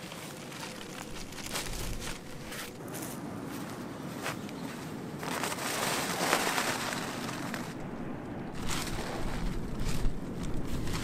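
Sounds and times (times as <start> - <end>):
tent fabric rustling: 0.0 - 7.8, 8.6 - 11.0.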